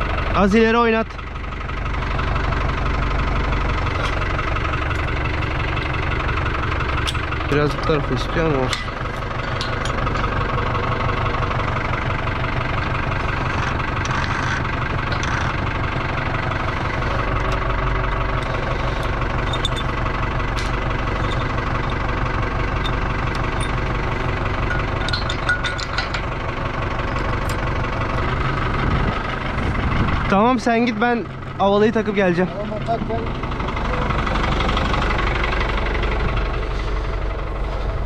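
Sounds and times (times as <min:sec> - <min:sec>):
tractor diesel engine idling: 0:00.0 - 0:38.0.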